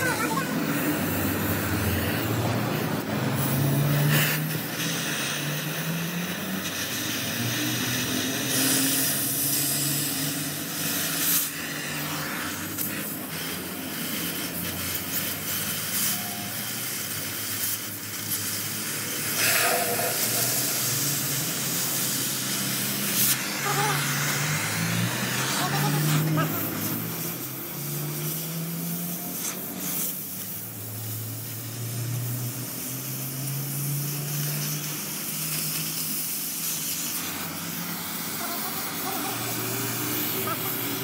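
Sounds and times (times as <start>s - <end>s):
cutting torch hissing: 0.0s - 41.0s.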